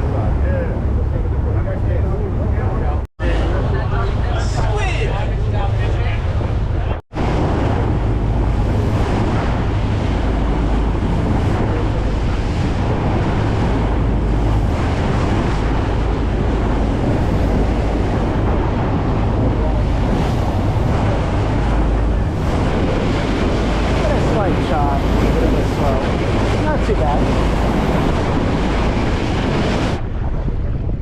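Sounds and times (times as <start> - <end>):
boat engine droning: 0.0 - 31.0
water rushing past hull: 0.0 - 31.0
wind buffeting microphone: 0.0 - 31.0.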